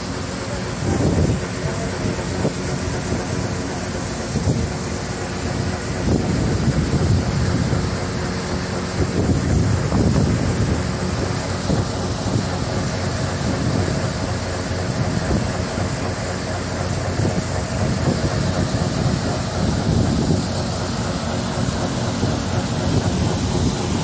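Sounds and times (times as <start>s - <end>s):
diesel engine running: 0.0s - 24.0s
grain pouring from auger: 0.0s - 24.0s.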